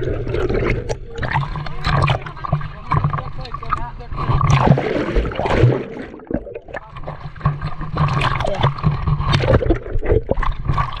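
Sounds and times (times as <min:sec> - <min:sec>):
muffled underwater sloshing: 0:00.0 - 0:11.0
splashes and knocks: 0:00.0 - 0:11.0.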